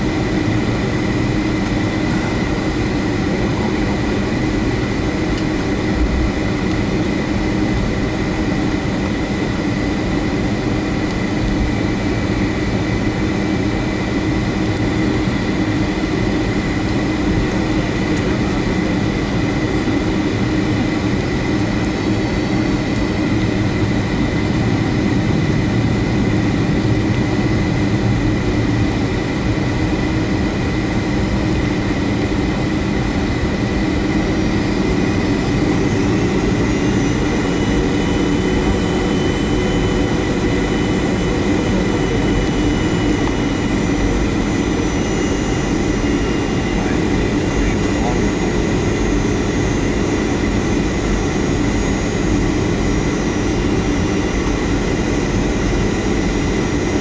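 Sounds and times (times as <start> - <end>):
jet engine high whine: 0.0 - 57.0
jet engine rumble: 0.0 - 57.0.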